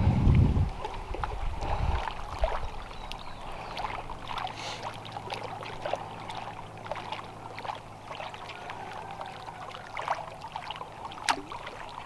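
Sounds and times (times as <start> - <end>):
water lapping and trickling: 0.0 - 12.0
light water splashes: 0.3 - 12.0.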